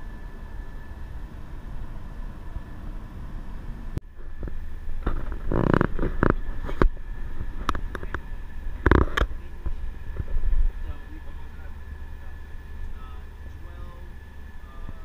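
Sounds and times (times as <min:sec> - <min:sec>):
faint steady whine: 0:00.0 - 0:15.0
vehicle road rumble: 0:00.0 - 0:15.0.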